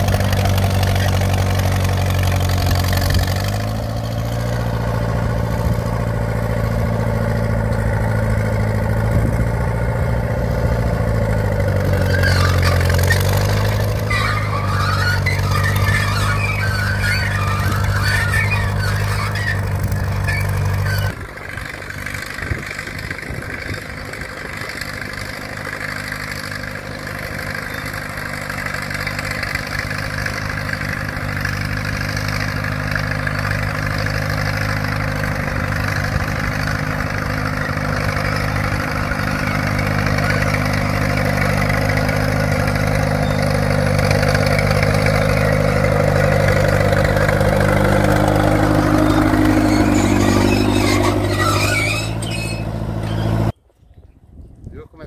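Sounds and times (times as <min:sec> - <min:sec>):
tractor diesel engine running: 0:00.0 - 0:53.6.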